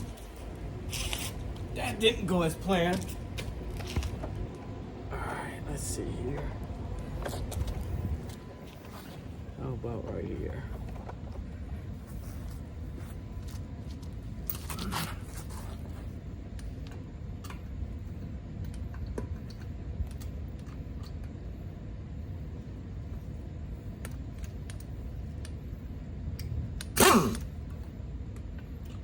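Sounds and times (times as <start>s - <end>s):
low steady background noise: 0.0s - 29.0s.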